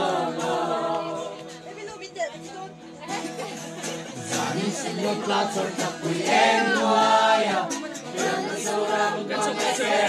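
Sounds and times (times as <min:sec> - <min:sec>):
young voices singing together: 0:00.0 - 0:01.7, 0:03.2 - 0:10.0.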